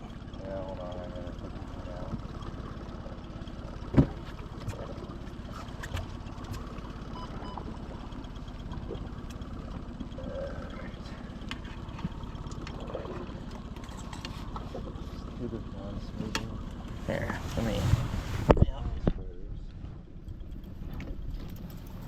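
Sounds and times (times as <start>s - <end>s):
water splashing against hull: 0.0s - 19.2s
outboard motor idling: 0.0s - 22.0s.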